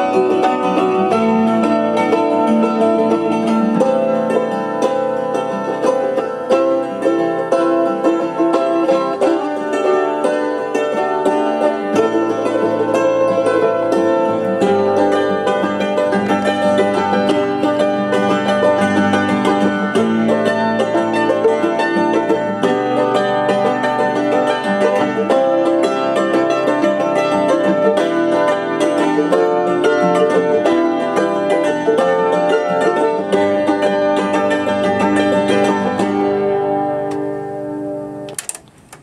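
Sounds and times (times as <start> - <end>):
hammered dulcimer: 0.0 - 36.7
mandolin: 0.0 - 38.5
guitar: 0.0 - 39.0.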